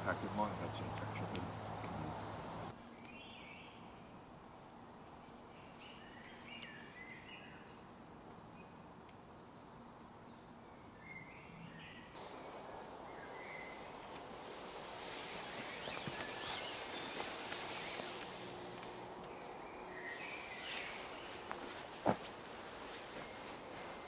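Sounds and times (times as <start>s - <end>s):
faint birdsong chirping: 0.0s - 24.0s.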